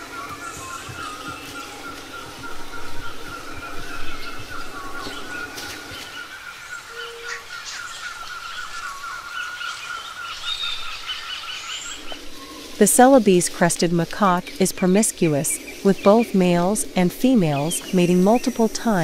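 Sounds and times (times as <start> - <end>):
bird chirps and calls: 0.0 - 19.0
high wavering drone: 0.0 - 19.0.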